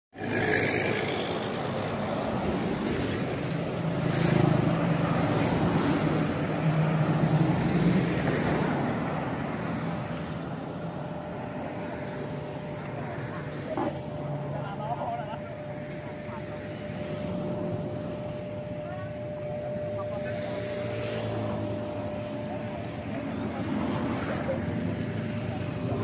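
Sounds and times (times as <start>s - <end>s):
road traffic passing: 0.1s - 26.0s
vehicle engine passing close: 0.2s - 26.0s.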